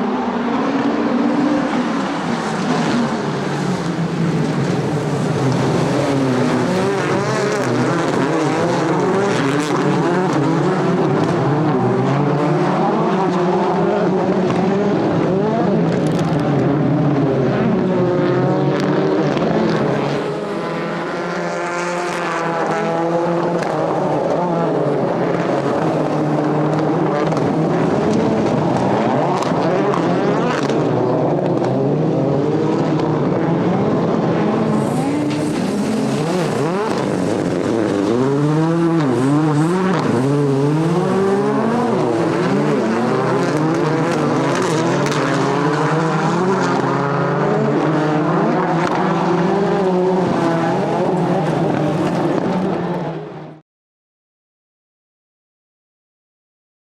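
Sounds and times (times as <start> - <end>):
race car engines revving: 0.0 - 53.6.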